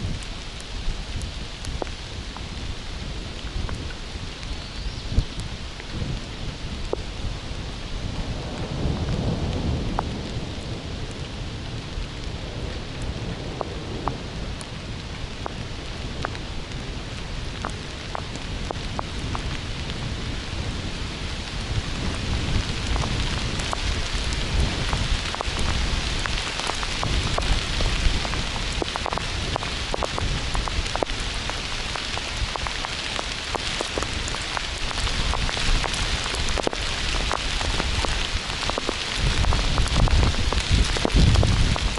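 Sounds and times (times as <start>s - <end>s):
heavy rain: 0.0s - 41.9s
raindrops ticking on surface: 0.0s - 41.9s
low rumbling thunder: 5.1s - 33.3s, 33.9s - 41.9s.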